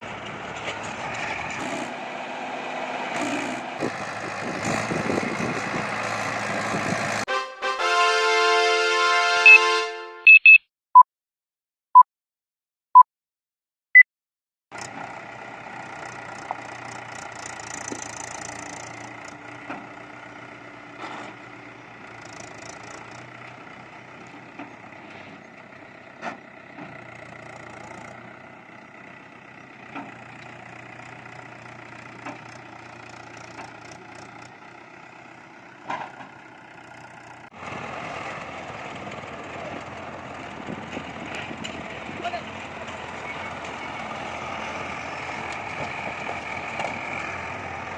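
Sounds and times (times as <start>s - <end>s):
tractor diesel engine running: 0.0s - 9.8s, 14.7s - 47.9s.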